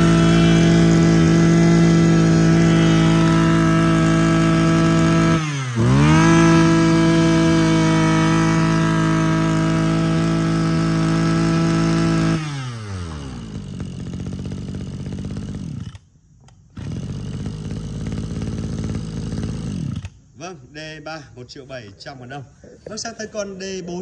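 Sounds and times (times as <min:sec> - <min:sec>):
brush cutter engine revving and idling: 0:00.0 - 0:20.4.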